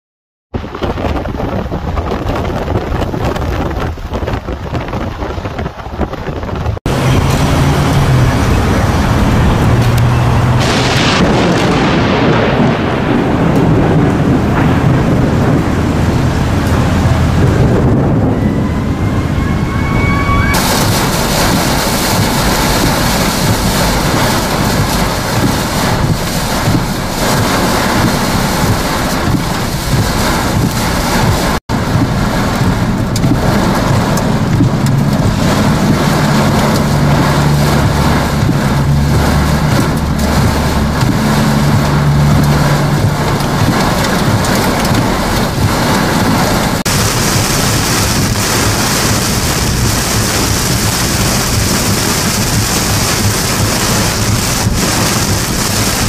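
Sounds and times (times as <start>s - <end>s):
wind: 0.5s - 56.0s
heavy wind-driven rain: 0.6s - 56.0s
roll of thunder: 0.6s - 56.0s.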